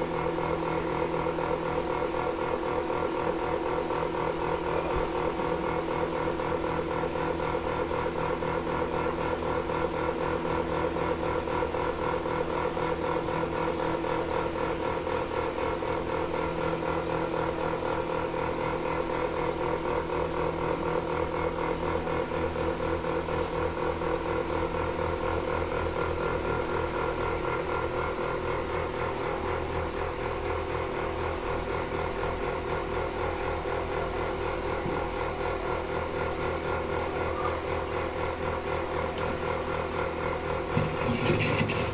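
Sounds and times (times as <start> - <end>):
vacuum pump pulsing hum: 0.0 - 41.9.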